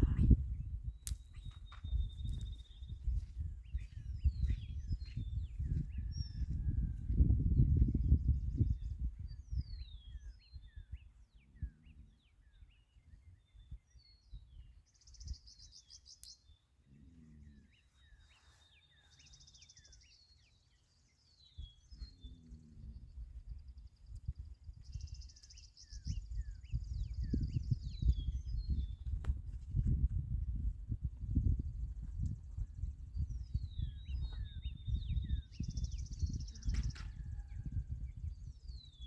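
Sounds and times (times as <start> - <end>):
small birds chirping: 0.0 - 29.9, 31.2 - 39.0.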